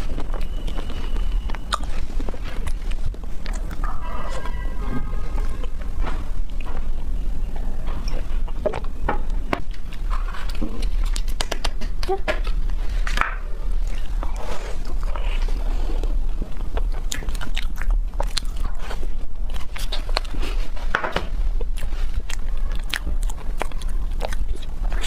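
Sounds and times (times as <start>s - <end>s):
chewing sounds: 0.0s - 25.0s
steady low hum: 0.0s - 25.0s.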